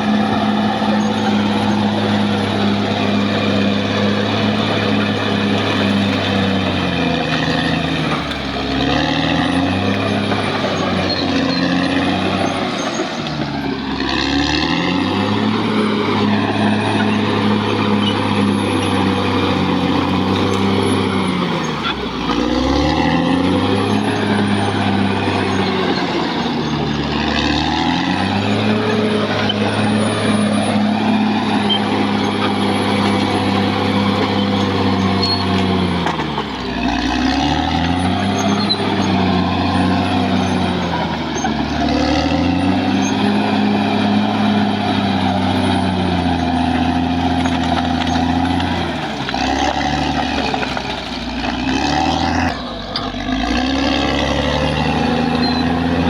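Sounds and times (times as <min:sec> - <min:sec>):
bulldozer diesel engine lugging: 0:00.0 - 0:56.0.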